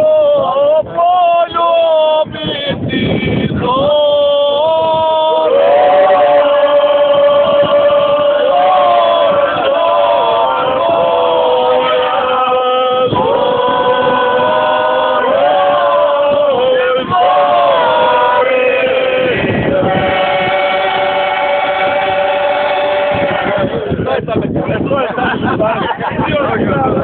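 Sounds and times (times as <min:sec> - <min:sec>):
group singing folk song: 0:00.0 - 0:24.3.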